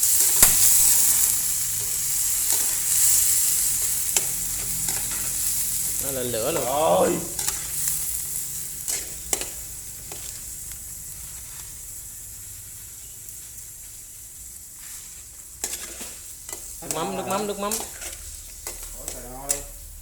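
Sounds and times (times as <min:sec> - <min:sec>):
larvae sizzling in hot oil: 0:00.0 - 0:20.0.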